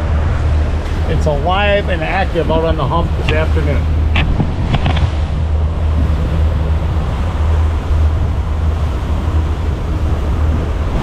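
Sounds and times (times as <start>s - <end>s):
outboard engines running: 0.0s - 11.0s
rushing water: 0.0s - 11.0s
wind: 0.0s - 11.0s.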